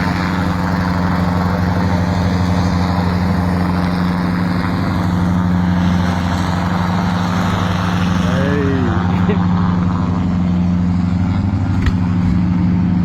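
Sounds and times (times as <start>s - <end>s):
helicopter engine hum: 0.0s - 13.0s.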